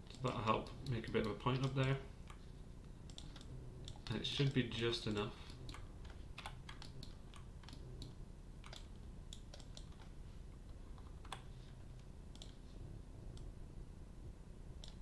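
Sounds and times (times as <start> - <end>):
keyboard and mouse clicks: 0.0 - 2.4, 3.0 - 12.6, 14.8 - 15.0
low background hum: 0.0 - 15.0.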